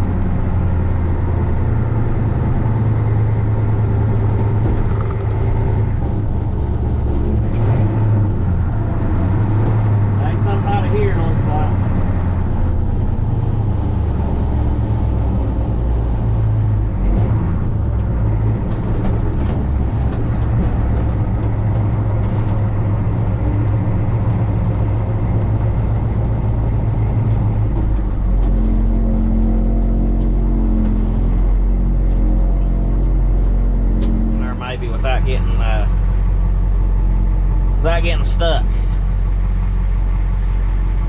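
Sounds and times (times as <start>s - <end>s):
truck engine running: 0.0s - 41.0s.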